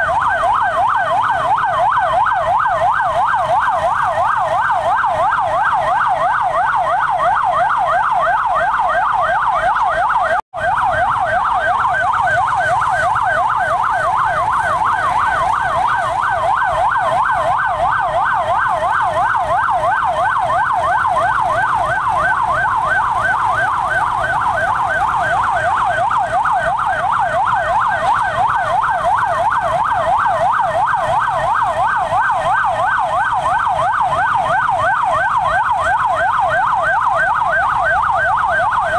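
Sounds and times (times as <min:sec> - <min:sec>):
siren yelping: 0:00.0 - 0:38.9.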